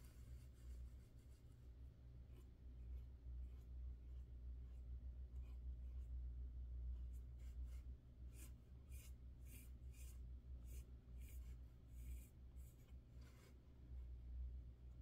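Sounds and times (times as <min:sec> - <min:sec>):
pen scratching on paper: 0:00.0 - 0:06.2, 0:06.9 - 0:13.6
low steady hum: 0:00.0 - 0:15.0.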